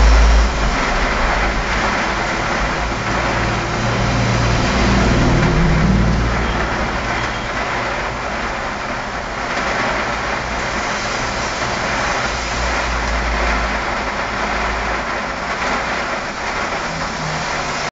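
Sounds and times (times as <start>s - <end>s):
car passing on wet road: 0.0s - 17.9s
heavy rain hissing: 0.0s - 17.9s.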